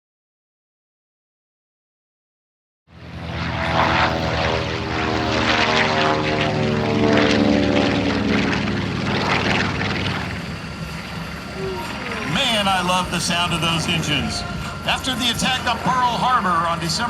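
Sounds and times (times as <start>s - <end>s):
propeller aircraft engines droning: 2.9s - 17.0s.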